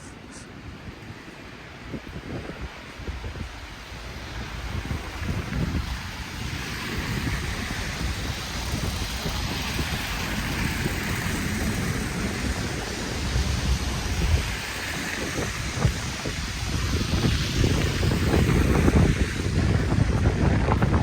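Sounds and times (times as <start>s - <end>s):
city street noise: 0.0s - 21.0s
tyres swishing on slushy road: 0.0s - 21.0s
wind buffeting microphone: 0.0s - 21.0s.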